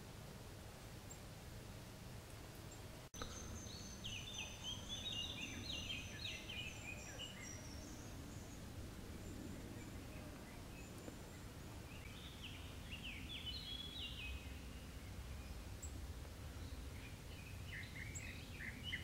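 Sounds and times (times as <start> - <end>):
small songbird singing: 2.6 - 19.0.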